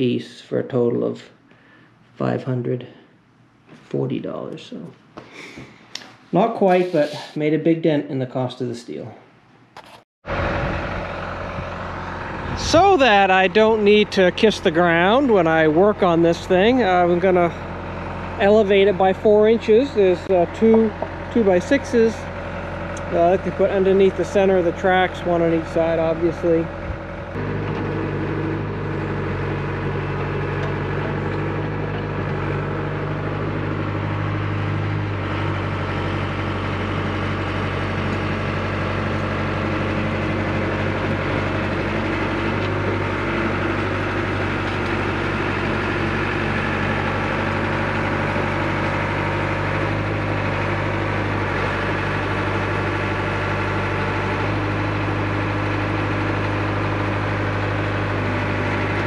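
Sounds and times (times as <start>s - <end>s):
diesel engine running: 10.2s - 59.0s.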